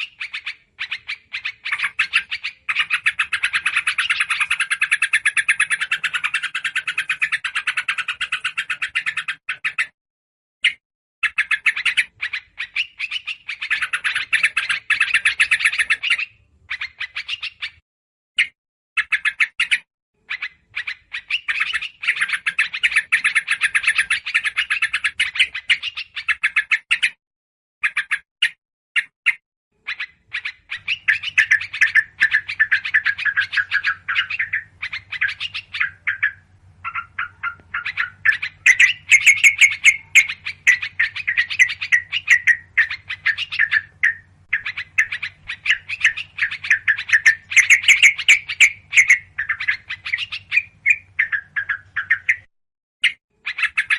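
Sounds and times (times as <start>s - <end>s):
birds chattering calls: 0.0s - 9.9s, 10.6s - 17.8s, 18.4s - 27.2s, 29.8s - 53.9s.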